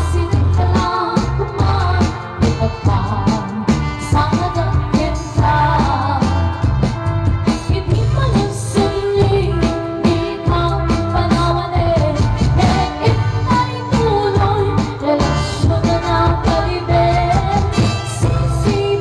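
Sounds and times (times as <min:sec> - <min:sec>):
women singing: 0:00.0 - 0:06.4, 0:07.6 - 0:19.0
live band playing a waltz: 0:00.0 - 0:19.0.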